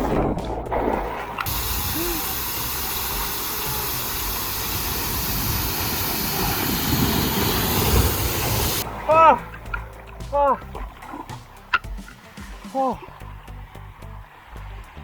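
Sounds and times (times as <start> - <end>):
rushing water and air: 0.0 - 15.0.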